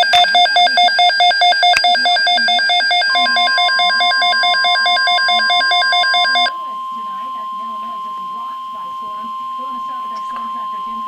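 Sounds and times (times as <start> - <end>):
rapid electronic beeping: 0.0 - 11.0
steady alarm tone: 0.0 - 11.0.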